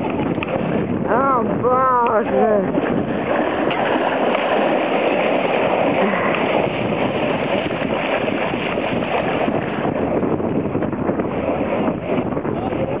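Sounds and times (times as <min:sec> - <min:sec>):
people wading through water: 0:00.0 - 0:13.0.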